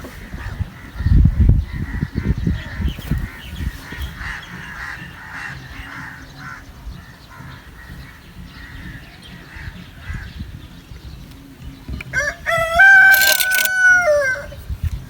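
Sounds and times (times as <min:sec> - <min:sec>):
birds with harsh repeated calls: 0:00.0 - 0:15.0.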